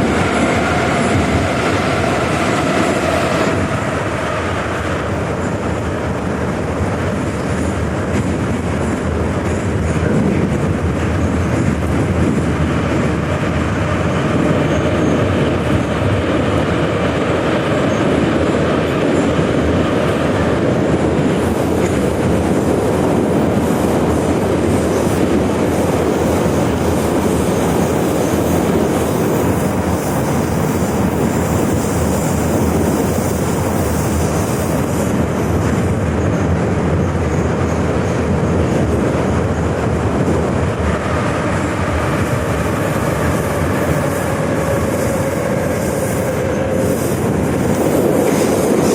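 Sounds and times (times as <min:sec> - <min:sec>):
metro train wheels rumbling: 0:00.0 - 0:48.9.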